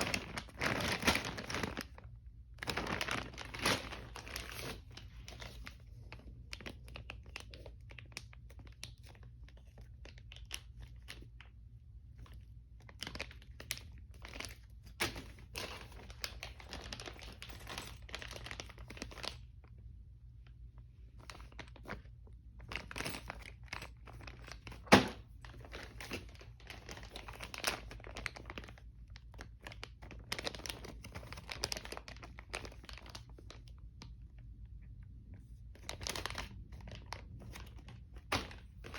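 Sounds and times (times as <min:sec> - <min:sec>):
packaging crinkling and tearing: 0:00.0 - 0:11.5, 0:12.2 - 0:19.8, 0:21.2 - 0:34.6, 0:35.7 - 0:38.9.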